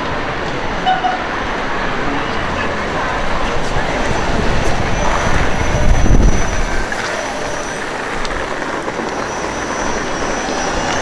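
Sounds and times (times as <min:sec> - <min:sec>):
bus passing: 0:00.0 - 0:11.0
road noise: 0:00.0 - 0:11.0.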